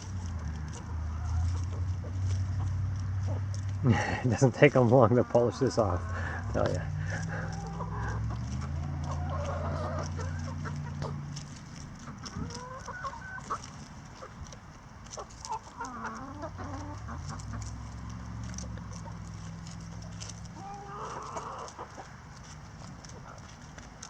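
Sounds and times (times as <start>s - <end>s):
hens clucking softly: 0.0s - 24.0s
low steady hum: 0.0s - 24.0s.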